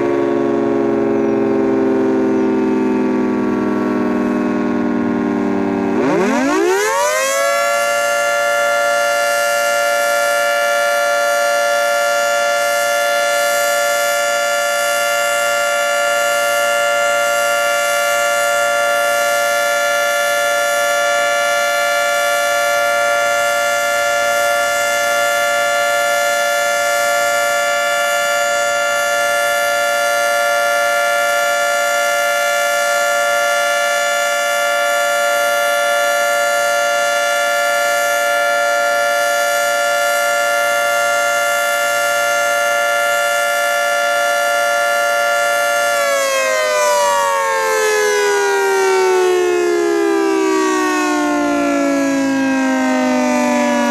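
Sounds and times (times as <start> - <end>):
three-tone siren winding up: 0.0 - 53.9.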